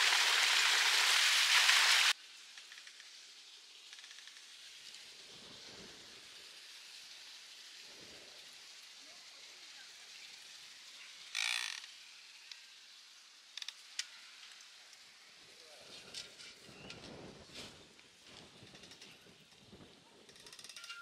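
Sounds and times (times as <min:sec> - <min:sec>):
steady outdoor hiss: 0:00.0 - 0:21.0.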